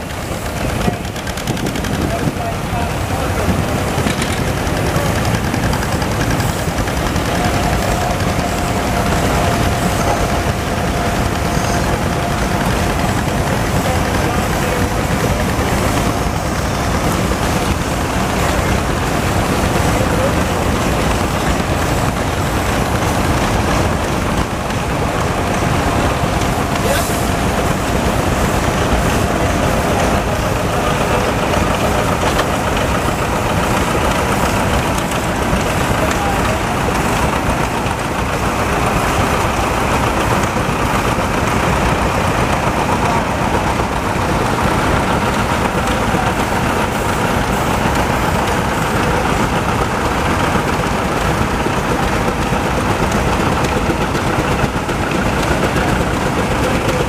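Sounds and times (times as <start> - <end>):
engines running: 0.0 - 57.0.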